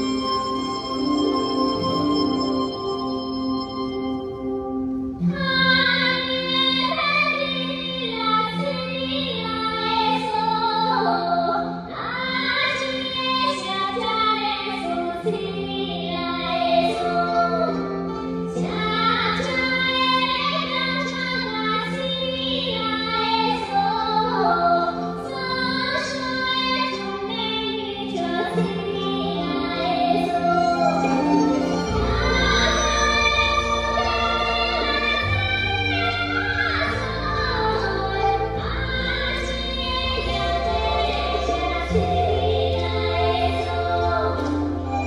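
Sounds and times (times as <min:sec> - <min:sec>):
instrumental accompaniment: 0:00.0 - 0:45.0.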